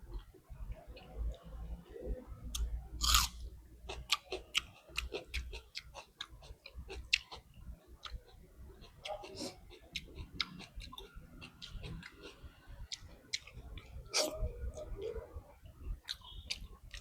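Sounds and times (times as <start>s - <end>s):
chewing with mouth smacks: 2.5s - 17.0s.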